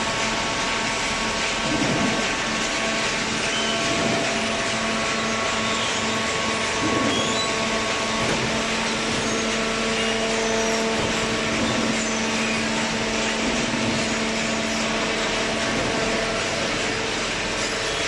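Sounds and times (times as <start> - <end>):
hydraulic baler humming: 0.0 - 18.0.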